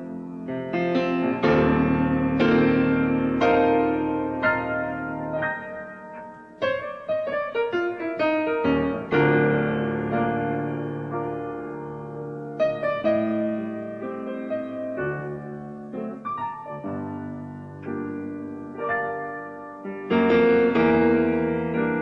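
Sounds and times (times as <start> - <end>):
piano ballad: 0.0 - 22.0.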